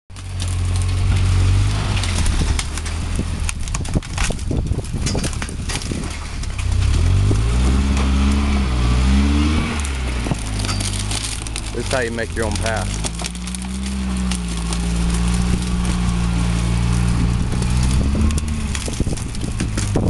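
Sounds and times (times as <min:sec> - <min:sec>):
branches cracking and snapping: 0:00.1 - 0:20.0
car engine running under load: 0:00.1 - 0:20.0.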